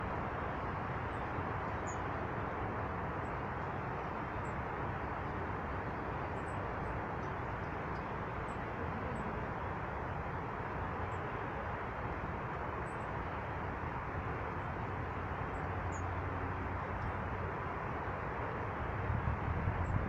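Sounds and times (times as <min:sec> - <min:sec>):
rushing background noise: 0:00.0 - 0:20.0.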